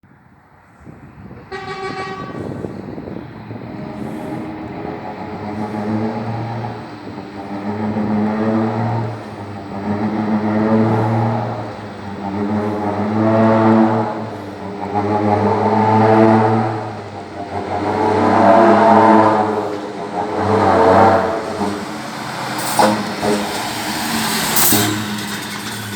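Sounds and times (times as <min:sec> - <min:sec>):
diesel engine running: 0:01.2 - 0:25.9
short horn-like exhaust toot: 0:01.5 - 0:03.0, 0:03.6 - 0:25.9
deep horn-like exhaust tone: 0:01.5 - 0:25.9.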